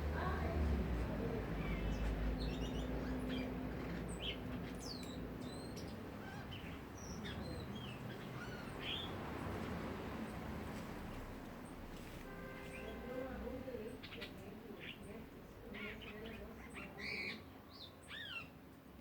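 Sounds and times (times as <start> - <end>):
songbirds chirping and calling: 1.2 - 10.4, 12.7 - 18.9.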